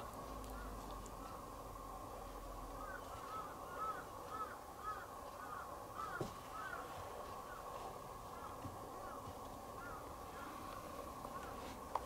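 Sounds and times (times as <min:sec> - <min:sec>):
steady background hum: 0:00.0 - 0:12.0
bird calling: 0:00.4 - 0:01.5, 0:02.7 - 0:11.8.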